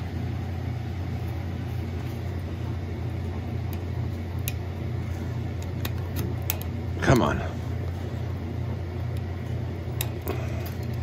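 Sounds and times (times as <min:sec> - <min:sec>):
circulator pump humming: 0:00.0 - 0:11.0.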